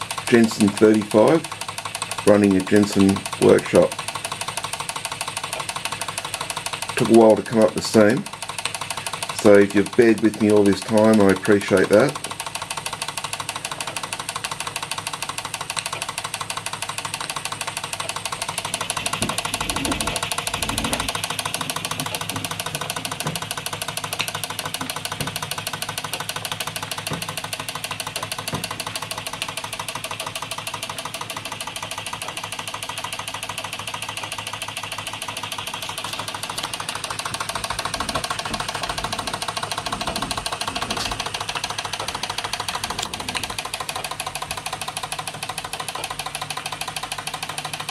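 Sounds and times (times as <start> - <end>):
toy steam engine clatter: 0.0 - 47.9.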